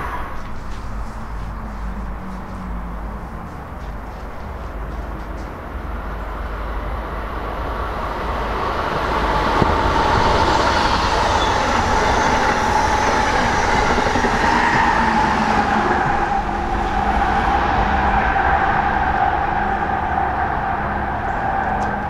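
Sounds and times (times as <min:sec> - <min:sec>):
train wheels rushing on rail: 0:00.0 - 0:22.0.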